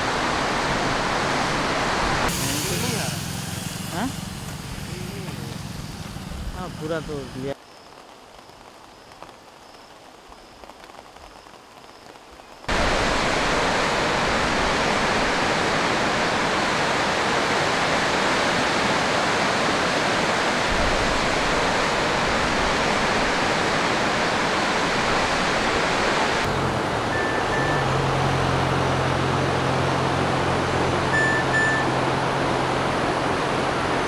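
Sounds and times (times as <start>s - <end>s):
river in flood rushing: 0.0s - 34.0s.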